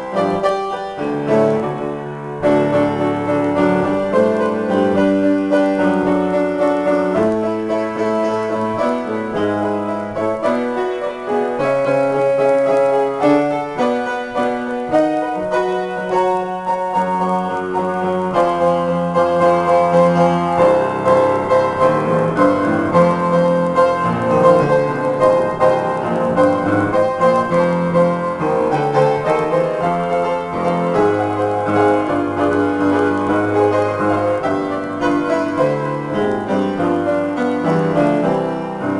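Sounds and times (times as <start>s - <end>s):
grand piano improvisation: 0.0s - 38.9s.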